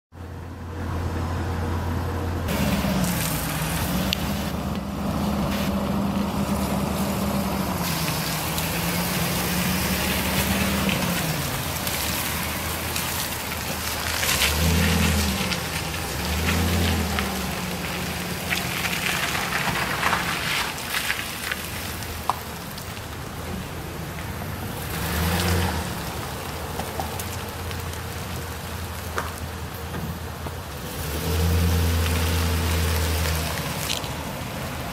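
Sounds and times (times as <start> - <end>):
truck engine running: 0.2 - 34.9.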